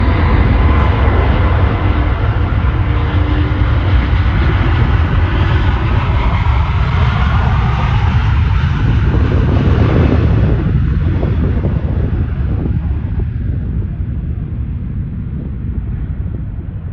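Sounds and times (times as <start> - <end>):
jet engine rumble with hiss: 0.0 - 16.9.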